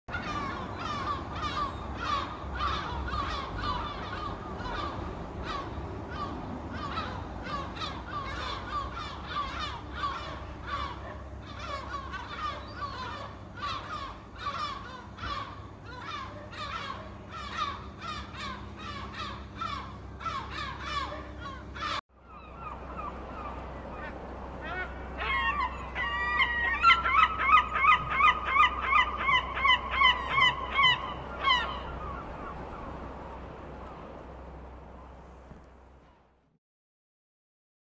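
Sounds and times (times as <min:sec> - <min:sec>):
gull rapid repeated calls: 0:00.1 - 0:32.9
flock of gulls calling: 0:00.1 - 0:34.2.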